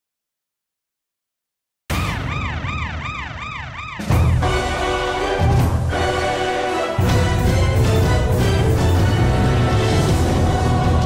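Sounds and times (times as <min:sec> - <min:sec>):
siren wailing: 0:01.9 - 0:11.0.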